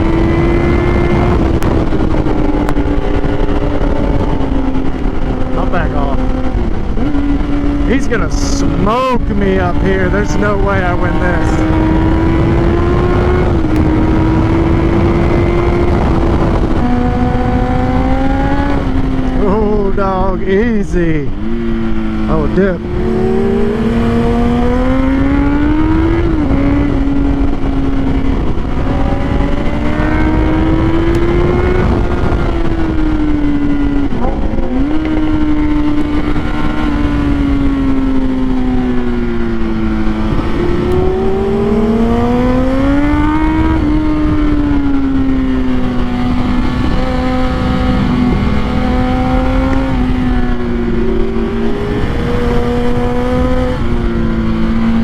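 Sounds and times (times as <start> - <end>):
motorcycle engine revving: 0.0 - 55.0
wind rush over microphone: 0.0 - 55.0.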